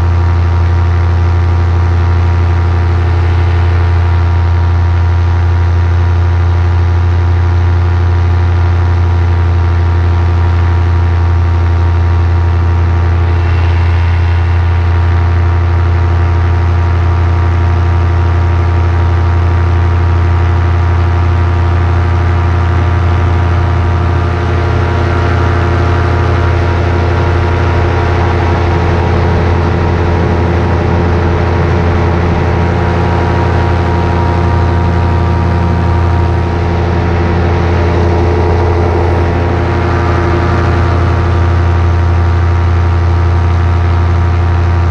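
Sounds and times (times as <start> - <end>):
paramotor engine droning: 0.0 - 44.9.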